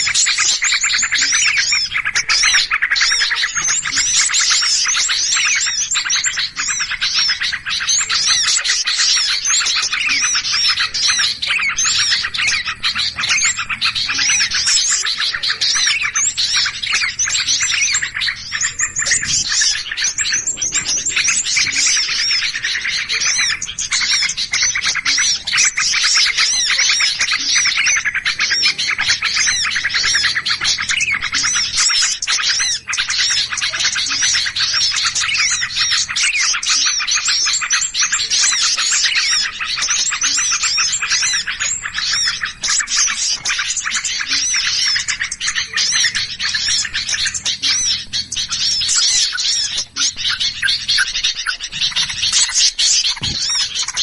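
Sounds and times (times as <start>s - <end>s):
small birds chirping agitatedly: 0.0s - 54.0s.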